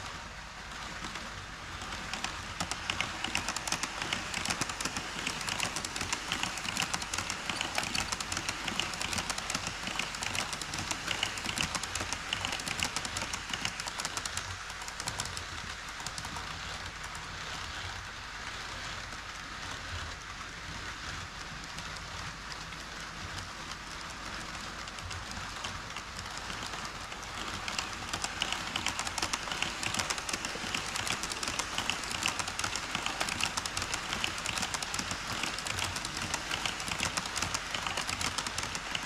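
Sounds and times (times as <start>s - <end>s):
model train wheels clicking: 0.0s - 39.0s.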